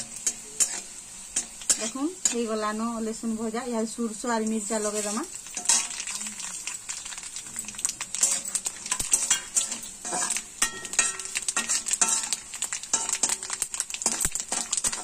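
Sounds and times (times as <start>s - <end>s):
metal spatula scraping a pan: 0.0s - 2.6s, 4.6s - 15.0s
spices sizzling in hot oil: 0.0s - 15.0s.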